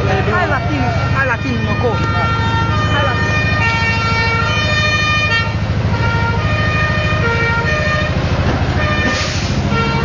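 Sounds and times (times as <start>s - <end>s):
fire truck engine rumbling: 0.0s - 10.0s.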